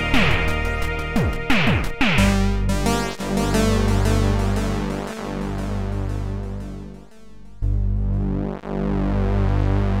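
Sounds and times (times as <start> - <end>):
electronic synthesizer music: 0.0 - 10.0.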